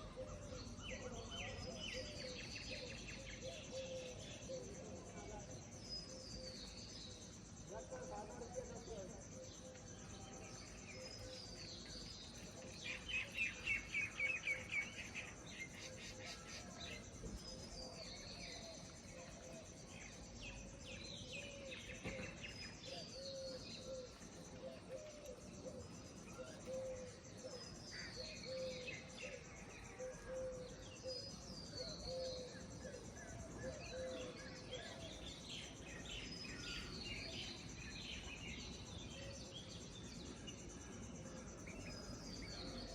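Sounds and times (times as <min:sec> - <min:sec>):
outdoor background noise: 0:00.0 - 0:42.9
small birds chirping: 0:00.0 - 0:42.9.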